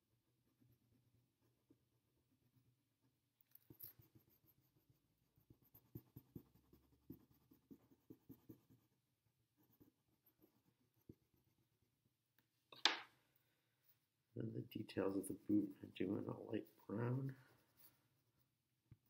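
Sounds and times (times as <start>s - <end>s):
colouring stick scratching on paper: 0.5s - 11.9s, 14.8s - 18.6s.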